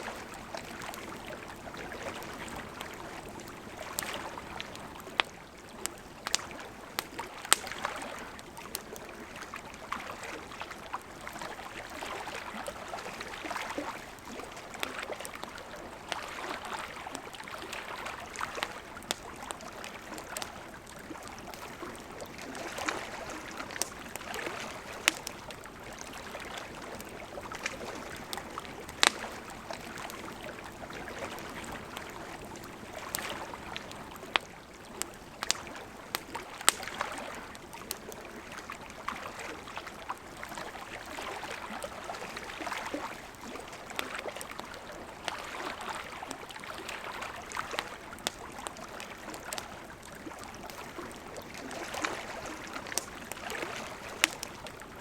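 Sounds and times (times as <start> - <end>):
campfire crackling: 0.0 - 55.0
lake water lapping: 0.0 - 55.0.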